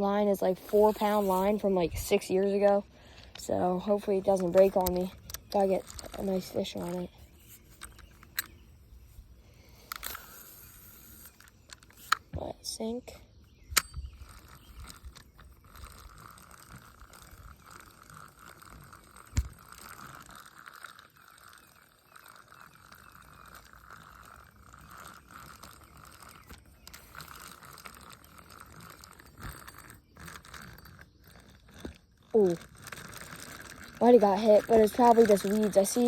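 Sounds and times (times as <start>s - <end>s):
fishing reel gears whirring: 0.0s - 36.0s.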